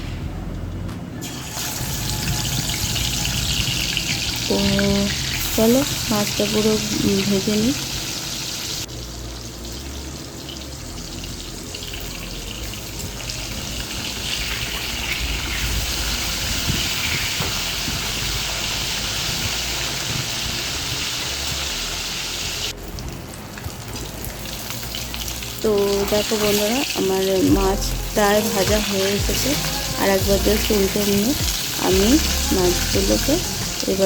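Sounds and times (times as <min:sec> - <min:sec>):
fish sizzling in hot oil: 0:01.2 - 0:34.0.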